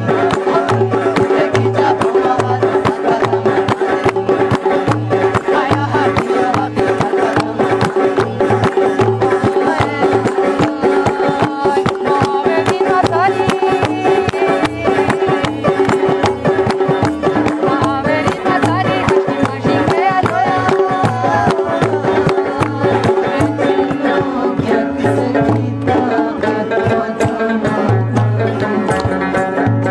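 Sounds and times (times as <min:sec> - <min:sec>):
steady drum beat: 0:00.0 - 0:29.9
hand-clapping: 0:00.1 - 0:24.0, 0:28.6 - 0:29.5
plucked string instrument melody: 0:03.8 - 0:29.9.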